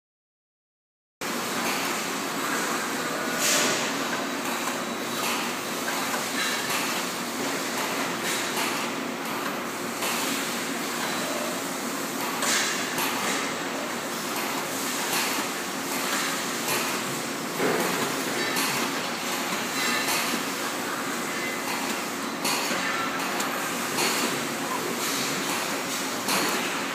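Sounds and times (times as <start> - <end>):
machinery din with low hum: 1.2 - 26.9.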